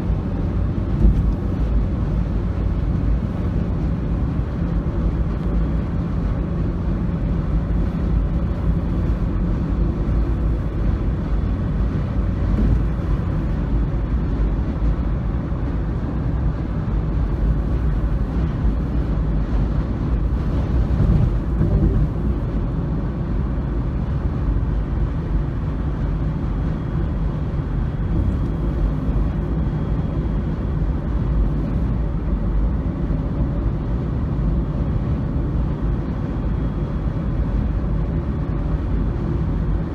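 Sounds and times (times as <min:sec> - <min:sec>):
vehicle and road rumble: 0:00.0 - 0:39.9.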